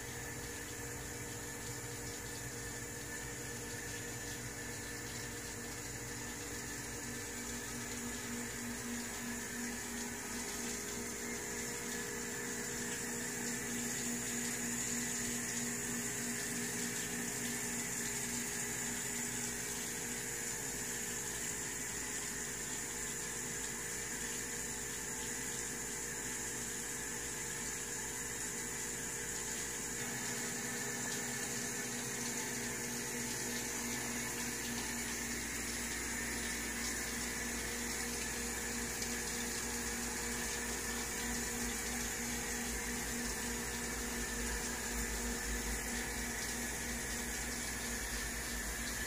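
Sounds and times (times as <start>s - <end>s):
water trickling and splashing: 0.0s - 25.8s, 29.0s - 49.0s.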